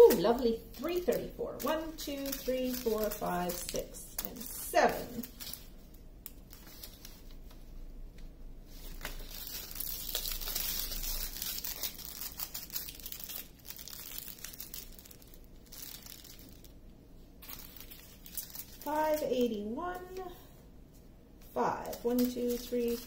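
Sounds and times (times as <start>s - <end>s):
plastic bags crinkling: 0.0s - 7.6s, 8.7s - 16.8s, 17.4s - 20.3s, 21.7s - 23.0s.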